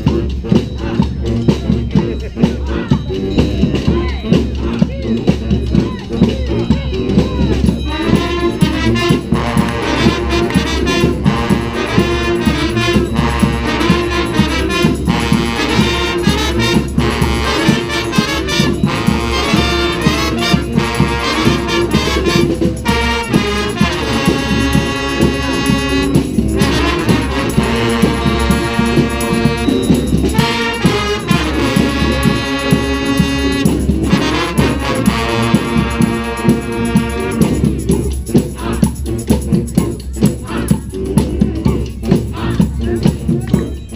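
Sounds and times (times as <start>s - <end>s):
brass band playing: 0.0s - 43.9s.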